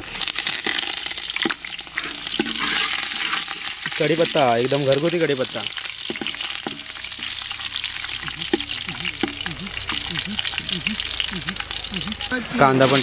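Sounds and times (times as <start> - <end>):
leaves sizzling in hot oil: 0.0 - 13.0
oil popping: 0.0 - 13.0.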